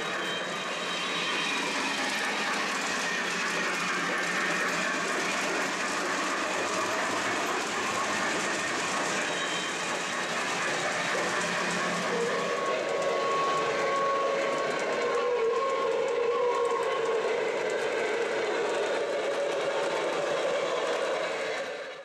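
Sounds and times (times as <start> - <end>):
model train wheels clattering on rails: 0.0 - 21.9.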